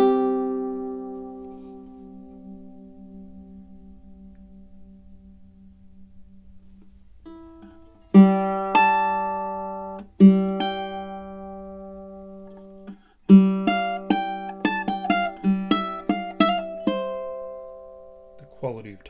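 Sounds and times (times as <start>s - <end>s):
plucked ukulele notes: 0.0s - 19.0s
ukulele chords ringing: 0.0s - 19.0s.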